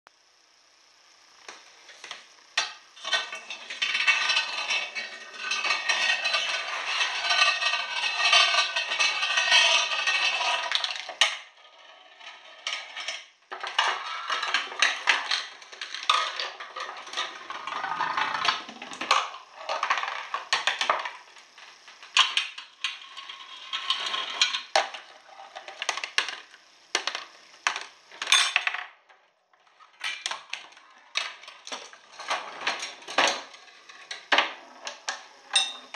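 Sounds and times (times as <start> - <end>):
balls and parts clattering: 1.9 - 35.9.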